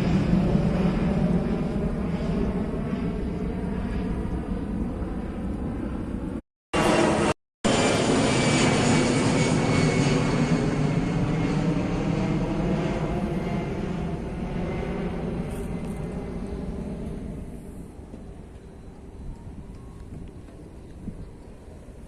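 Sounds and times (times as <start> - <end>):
jet airliner flying over: 0.0 - 22.0.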